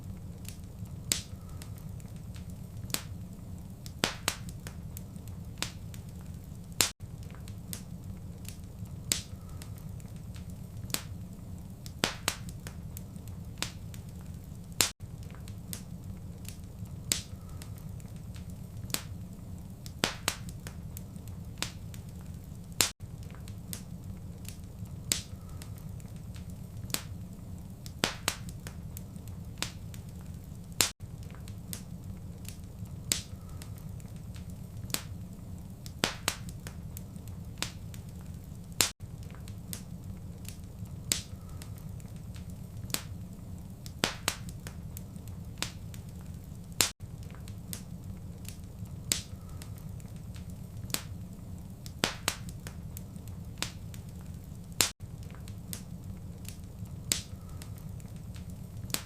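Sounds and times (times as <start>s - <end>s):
fire pops and snaps: 0.0s - 59.0s
low rumble of flames: 0.0s - 59.0s.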